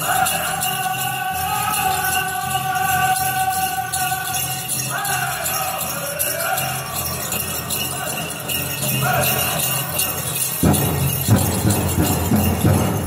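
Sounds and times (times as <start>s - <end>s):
drum group singing: 0.0s - 13.0s
leg bells jingling: 0.0s - 13.0s.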